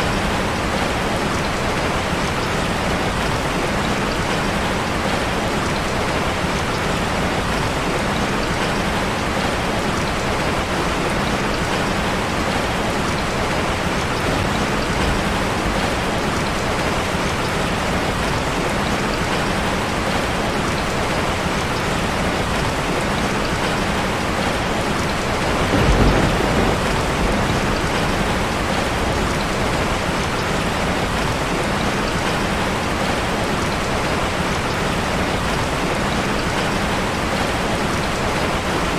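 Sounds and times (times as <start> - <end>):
rain drumming on a metal roof: 0.0 - 38.9.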